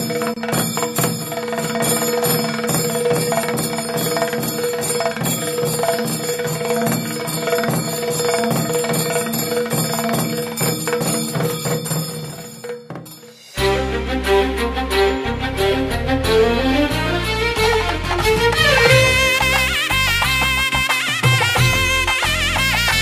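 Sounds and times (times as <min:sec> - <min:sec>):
background music with ringing beat: 0:00.0 - 0:23.0.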